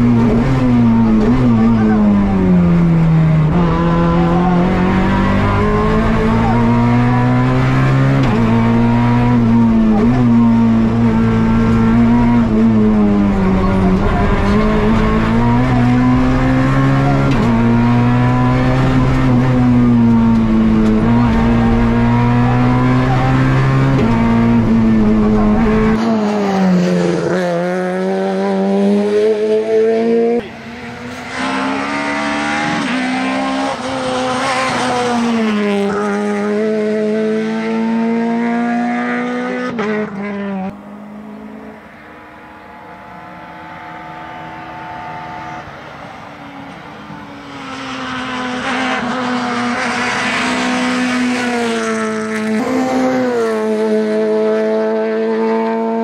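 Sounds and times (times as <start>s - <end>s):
rally car engine at high revs: 0.0s - 56.0s.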